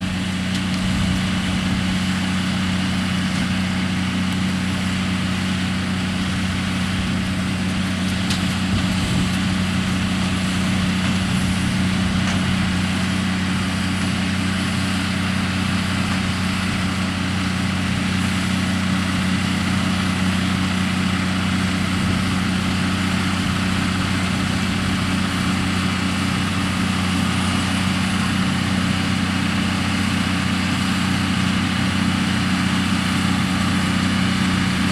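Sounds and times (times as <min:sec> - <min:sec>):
harvester mechanical noise: 0:00.0 - 0:34.9
tractor engine hum: 0:00.0 - 0:34.9.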